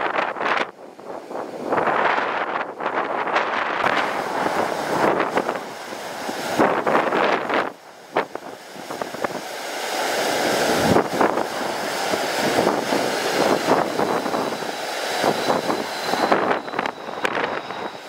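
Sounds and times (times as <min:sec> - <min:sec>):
airliner jet engines: 0:00.0 - 0:18.0
wind buffeting microphone: 0:00.0 - 0:18.0
faint high whine: 0:01.7 - 0:18.0.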